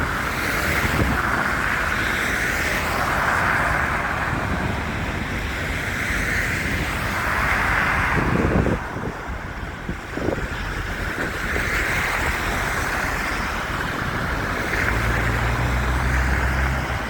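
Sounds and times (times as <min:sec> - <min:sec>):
road traffic: 0:00.0 - 0:17.0
wind: 0:00.0 - 0:17.0
wind buffeting microphone: 0:00.0 - 0:17.0.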